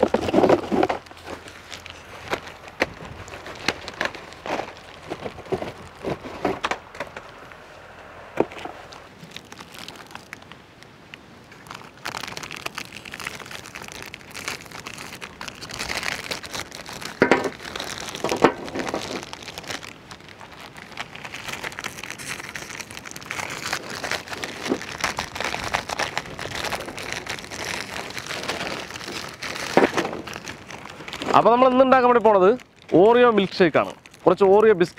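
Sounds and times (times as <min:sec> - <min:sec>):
plastic wrappers crinkling: 0:00.0 - 0:34.9.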